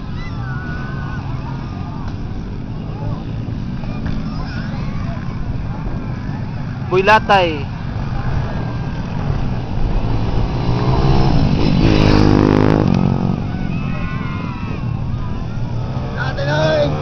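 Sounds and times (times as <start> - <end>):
motocross bike engines revving: 0.0 - 17.0
motorbike passing close: 0.0 - 17.0.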